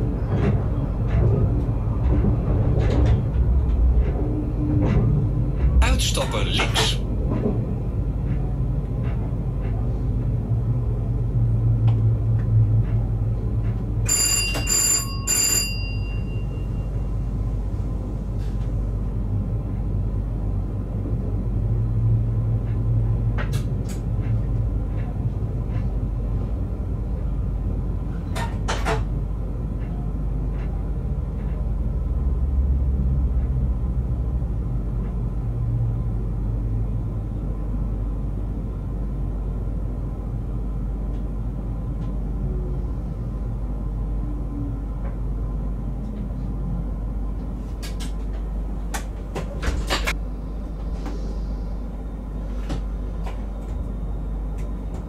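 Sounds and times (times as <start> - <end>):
electric train rumbling on rails: 0.0 - 55.0.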